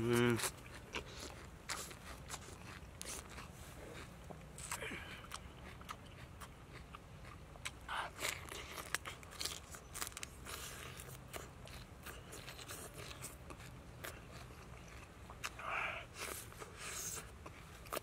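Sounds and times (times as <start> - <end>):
person chewing crisp vegetable: 0.0 - 18.0.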